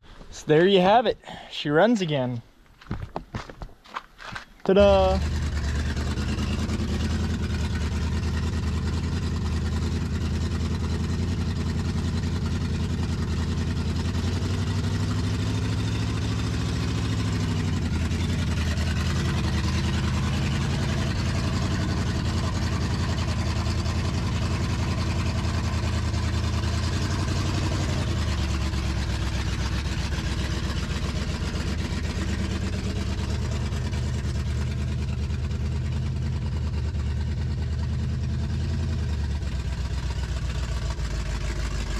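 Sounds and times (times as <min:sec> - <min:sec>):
car engine idling: 0:04.7 - 0:41.9.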